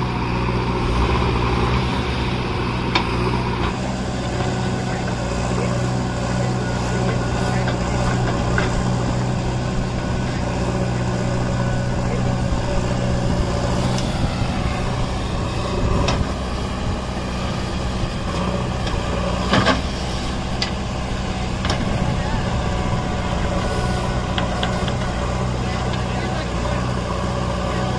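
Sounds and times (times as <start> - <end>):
heavy vehicle engine humming: 0.0 - 27.9.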